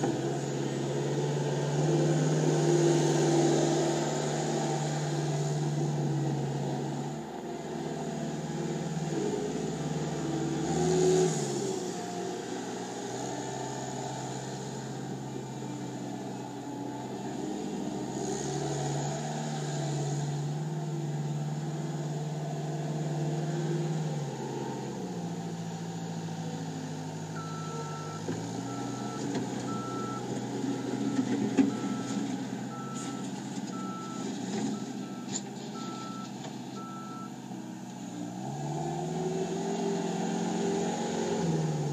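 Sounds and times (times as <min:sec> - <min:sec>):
loader diesel engine running: 0:00.0 - 0:41.9.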